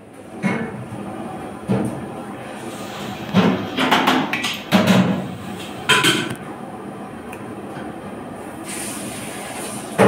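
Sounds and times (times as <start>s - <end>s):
working kitchen background noise: 0.0s - 10.0s.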